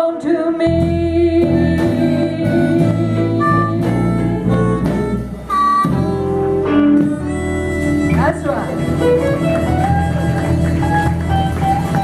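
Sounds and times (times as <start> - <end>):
bass line: 0.0 - 12.0
lead guitar notes: 0.7 - 12.0.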